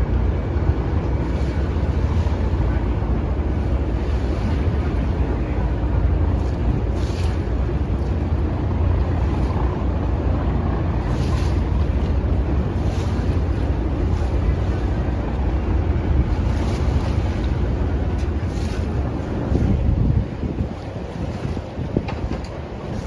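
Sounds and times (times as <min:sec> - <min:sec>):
ferry engine rumble: 0:00.0 - 0:23.0
rushing water: 0:00.0 - 0:23.0
wind on microphone: 0:00.0 - 0:23.0.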